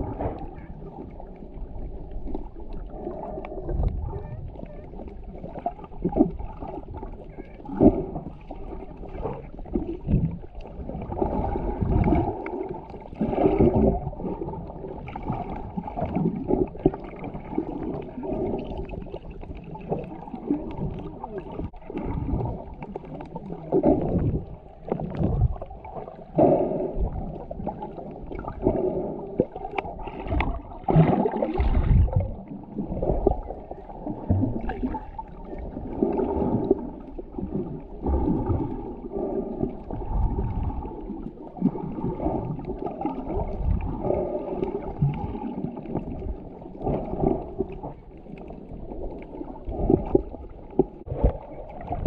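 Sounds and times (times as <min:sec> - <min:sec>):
underwater swishing and gurgling: 0:00.0 - 0:52.0.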